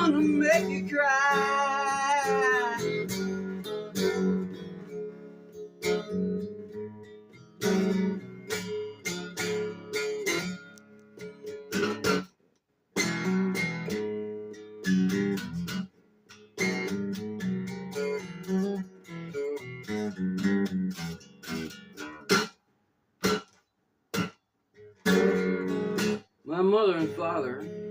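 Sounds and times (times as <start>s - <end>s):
acoustic guitar strumming blues: 0.0s - 12.3s, 12.9s - 22.6s, 23.2s - 27.9s.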